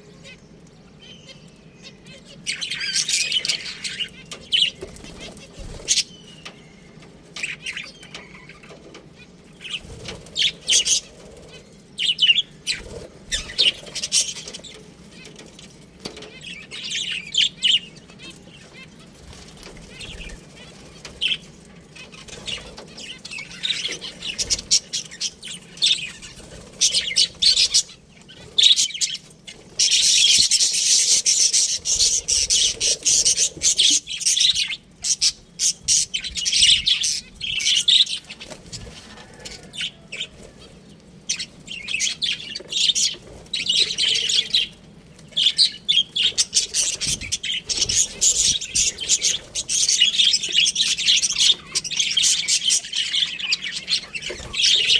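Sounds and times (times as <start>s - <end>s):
budgerigars chirping and chattering: 0.0s - 54.9s.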